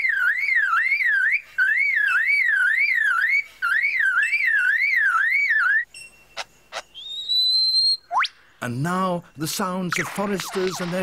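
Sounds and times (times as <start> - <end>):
bird mimicking car alarm: 0.0 - 8.4, 9.9 - 11.0.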